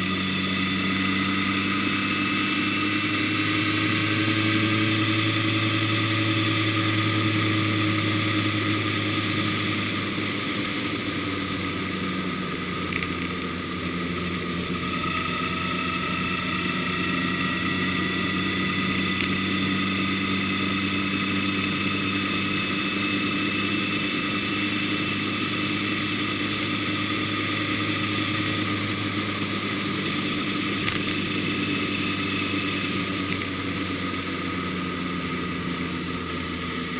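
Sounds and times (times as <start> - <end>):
vehicle engine running: 0.0 - 36.9.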